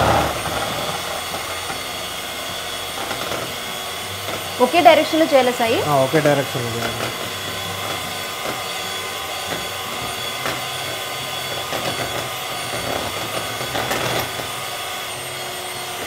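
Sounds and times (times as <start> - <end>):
electric hand mixer whisking: 0.0 - 16.0.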